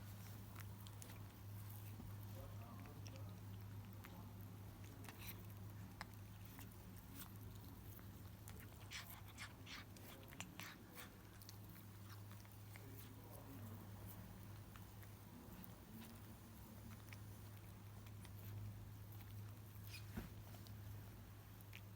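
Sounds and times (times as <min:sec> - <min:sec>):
cats crunching food: 0:00.0 - 0:21.9.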